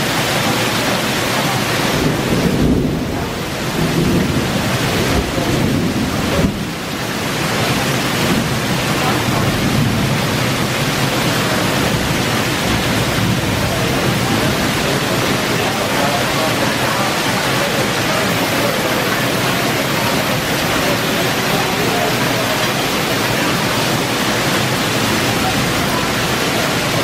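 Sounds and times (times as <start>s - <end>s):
heavy rain: 0.0s - 27.0s
water pouring onto tiled patio: 0.0s - 27.0s.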